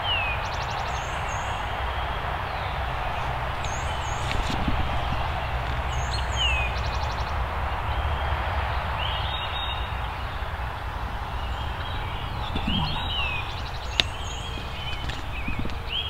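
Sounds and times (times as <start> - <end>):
songbirds singing: 0.0 - 16.0
steady rushing noise: 0.0 - 16.0
low rumble: 1.6 - 16.0.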